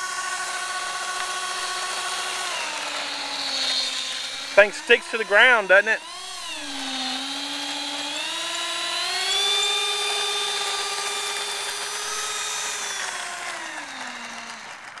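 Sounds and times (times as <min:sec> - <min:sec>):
ducted fan motor whining: 0:00.0 - 0:15.0.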